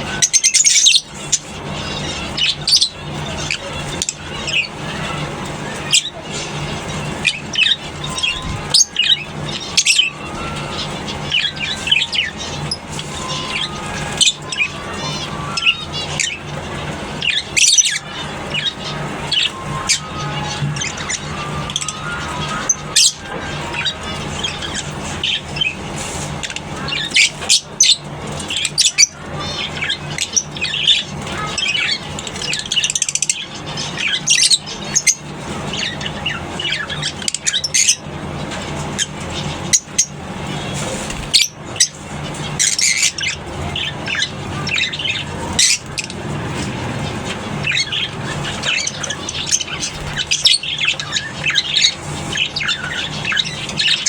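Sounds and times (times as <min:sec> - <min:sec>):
birds chattering: 0:00.0 - 0:54.0.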